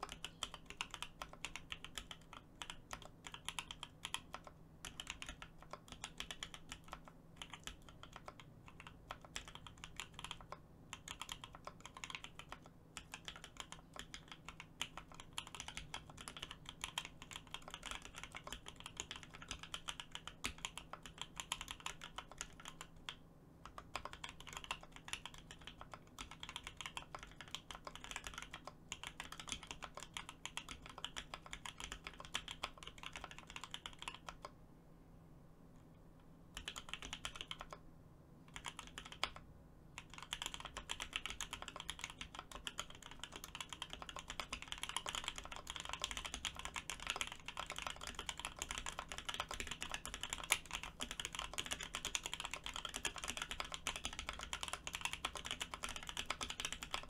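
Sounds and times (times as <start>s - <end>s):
mechanical keyboard typing: 0.0s - 34.6s, 36.5s - 37.8s, 38.5s - 39.4s, 40.0s - 57.0s.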